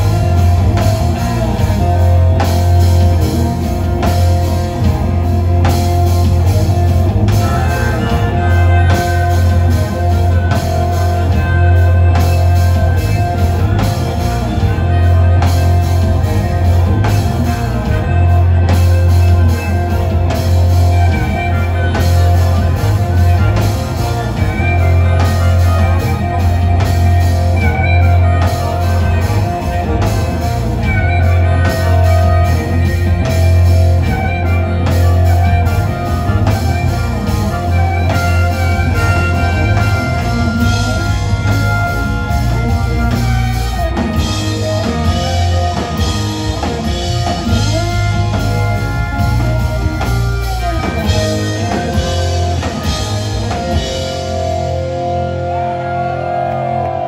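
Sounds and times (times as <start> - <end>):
harmonica wailing: 0.0 - 57.0
live rock band playing: 0.0 - 57.0.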